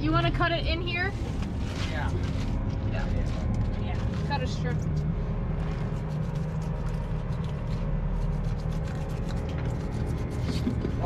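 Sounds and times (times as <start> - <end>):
fish handled in ice: 1.3 - 11.0.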